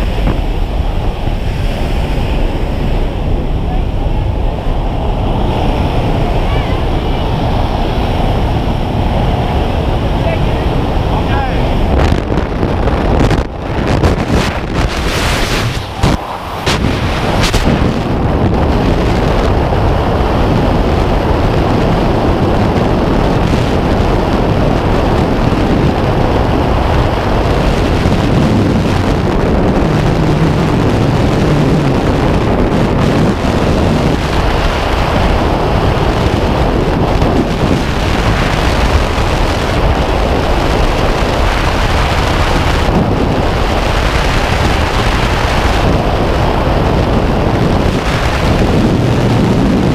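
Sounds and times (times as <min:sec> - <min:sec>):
wind rushing over microphone: 0:00.0 - 0:49.9.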